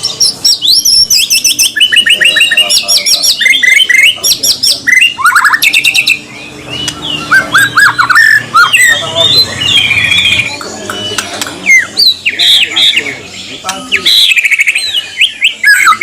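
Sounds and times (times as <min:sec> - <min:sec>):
bird singing harsh chirps and whistles: 0:00.0 - 0:16.0.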